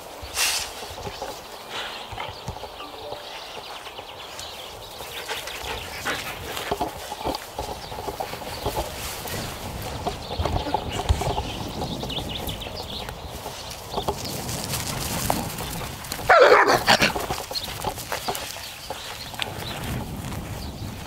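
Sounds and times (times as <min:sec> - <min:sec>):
dogs scuffing and rustling on grass: 0:00.0 - 0:21.0.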